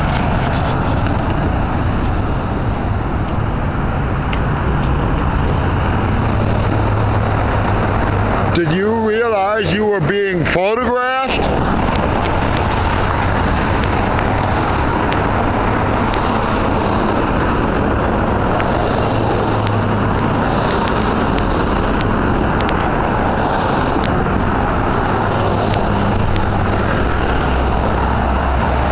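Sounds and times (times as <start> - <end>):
road traffic noise: 0.0 - 28.9.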